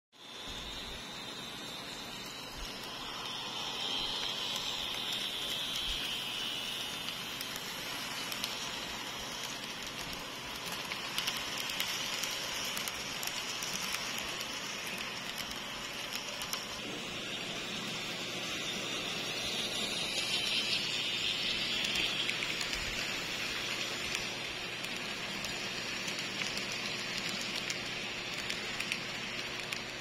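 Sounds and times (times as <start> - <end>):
model train motor whirring: 0.2 - 30.0.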